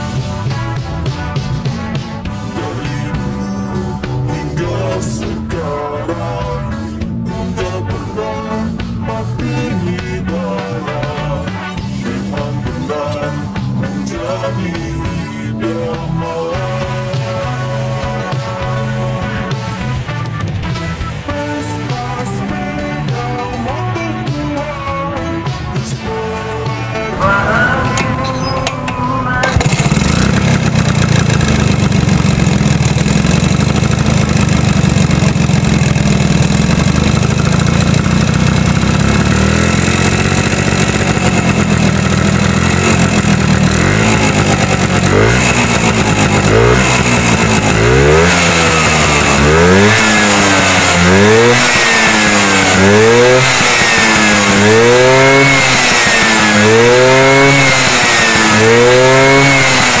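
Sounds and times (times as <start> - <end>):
scooter engine idling and revving: 0.0 - 60.0.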